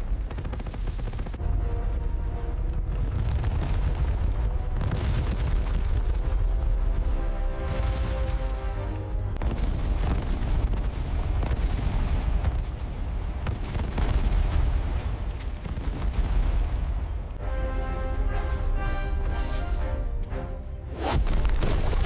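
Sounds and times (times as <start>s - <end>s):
dramatic music score: 0.0s - 22.0s.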